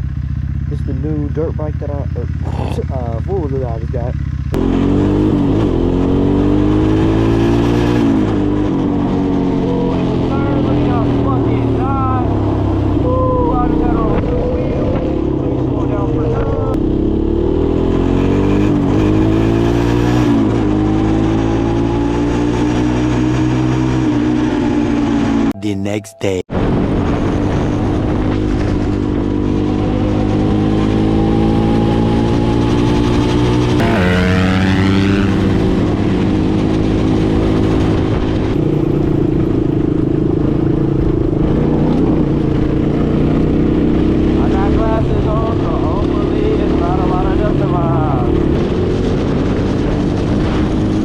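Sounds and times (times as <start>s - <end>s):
atv engine running: 0.0s - 25.4s, 26.6s - 51.0s.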